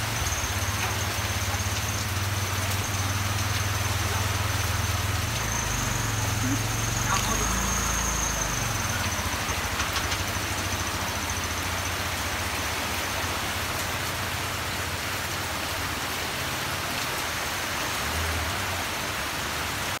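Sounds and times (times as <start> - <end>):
heavy rain on metal roofs: 0.0 - 20.0.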